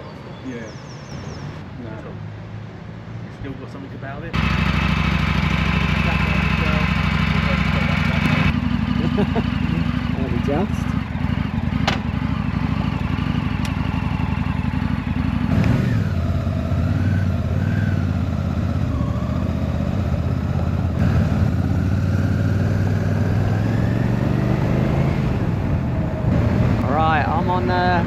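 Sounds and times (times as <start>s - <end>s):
motorcycle engine revving: 4.4s - 28.0s.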